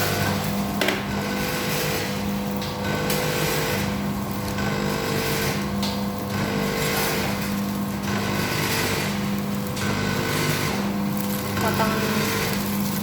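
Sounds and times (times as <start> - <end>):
packing machine humming: 0.0 - 13.0.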